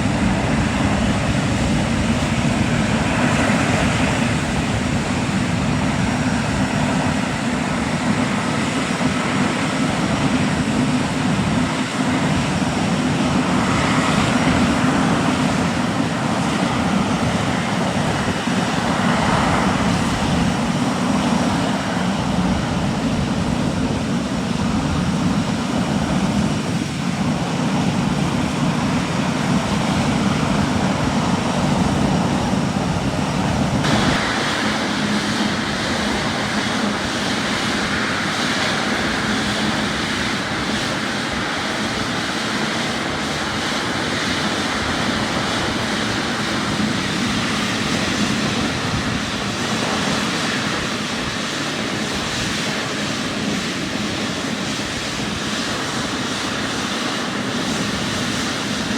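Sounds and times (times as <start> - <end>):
jet airliner engines running: 0.0 - 58.9.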